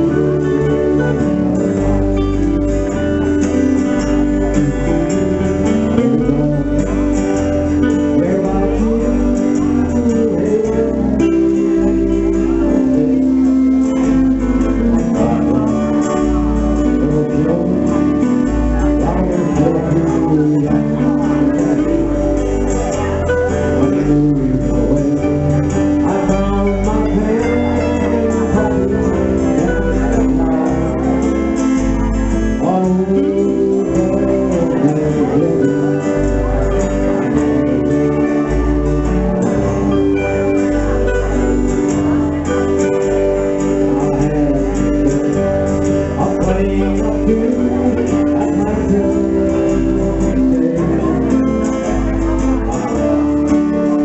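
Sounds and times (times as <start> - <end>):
acoustic guitars strumming: 0.0 - 54.0
electric bass line: 0.0 - 54.0
electric guitar picking: 0.0 - 54.0.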